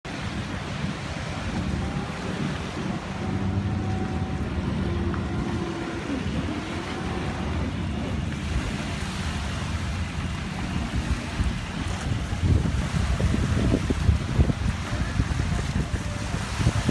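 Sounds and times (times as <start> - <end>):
boat engine running: 0.0 - 16.9
water noise: 0.0 - 16.9
wind noise on microphone: 0.1 - 16.9.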